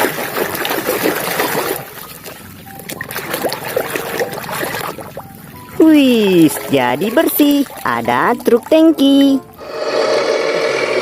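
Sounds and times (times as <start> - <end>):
water splashing and sloshing: 0.0 - 9.7.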